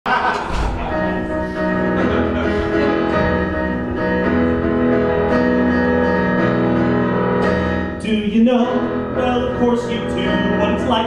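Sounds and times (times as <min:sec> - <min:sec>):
slow piano chords: 0:00.1 - 0:11.0.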